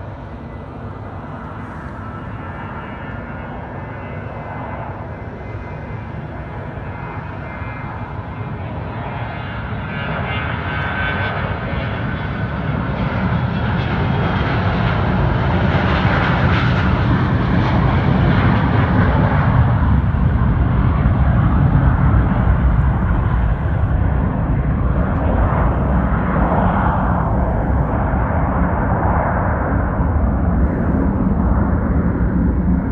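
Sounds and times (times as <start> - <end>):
jet engines roaring at takeoff: 0.0 - 32.9.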